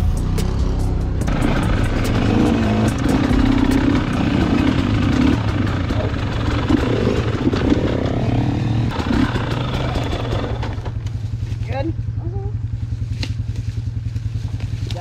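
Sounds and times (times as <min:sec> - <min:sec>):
dirt bike engines: 0:00.0 - 0:15.0.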